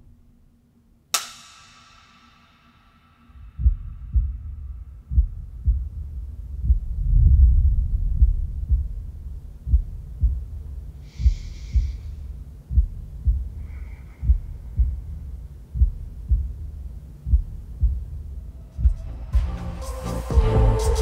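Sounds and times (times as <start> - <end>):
low rumble: 1.8 - 21.0
heartbeat thumps: 3.3 - 21.0.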